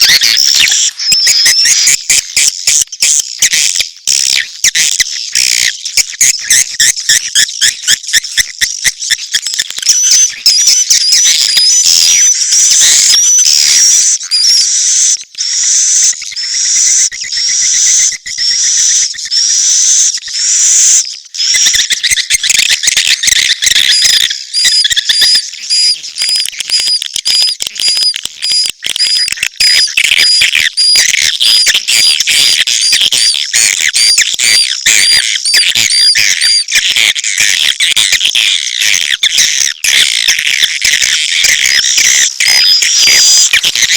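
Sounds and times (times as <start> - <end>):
swiftlet chirps and twitters: 0.0 - 43.9.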